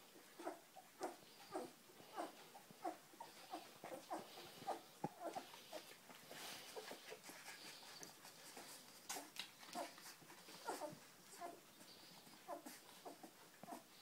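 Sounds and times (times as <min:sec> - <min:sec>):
puppies squeaking and whimpering: 0:00.3 - 0:14.0.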